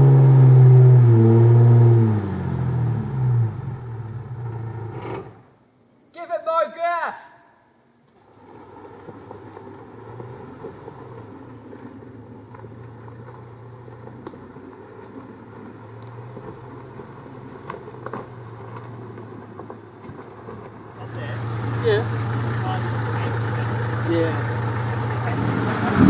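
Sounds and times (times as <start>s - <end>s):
car engine under load: 0.0s - 5.6s, 7.9s - 26.0s.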